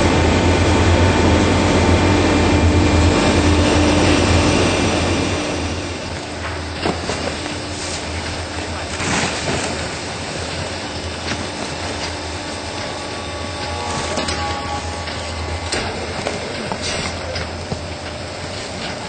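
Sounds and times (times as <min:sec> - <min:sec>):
baler mechanical drone: 0:00.0 - 0:19.0.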